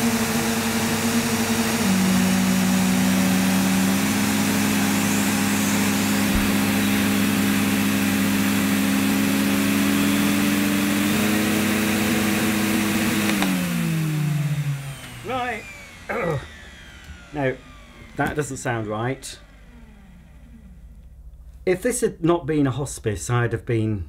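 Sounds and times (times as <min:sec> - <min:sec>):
vacuum cleaner motor whining: 0:00.0 - 0:21.2.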